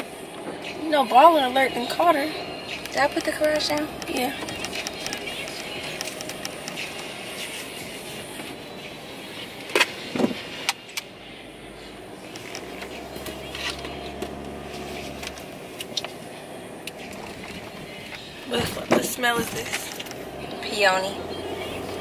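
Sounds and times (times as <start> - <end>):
road and engine noise in car: 0.0 - 22.0.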